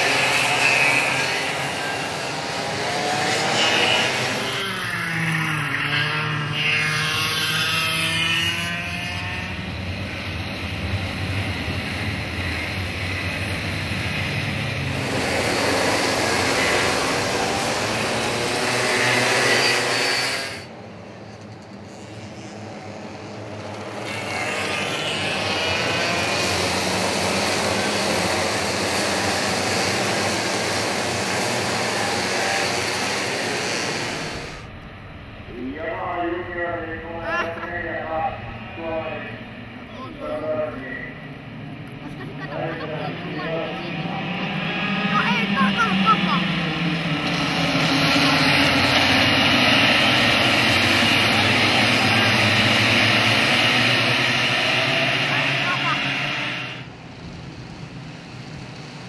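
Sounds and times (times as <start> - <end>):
racing kart engines revving past: 0.0 - 59.0.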